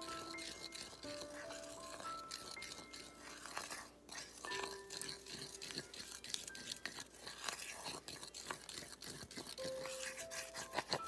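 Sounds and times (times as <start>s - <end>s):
spoon scraping ceramic bowl: 0.0s - 11.0s.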